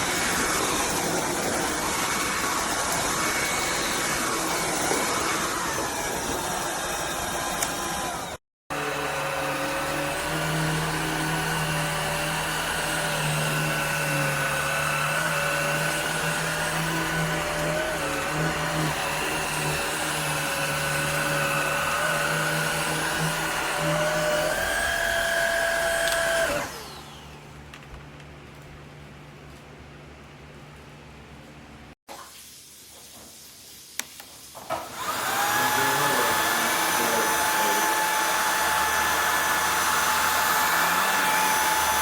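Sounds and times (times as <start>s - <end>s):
vacuum cleaner motor whine: 0.0s - 27.4s, 34.7s - 42.0s.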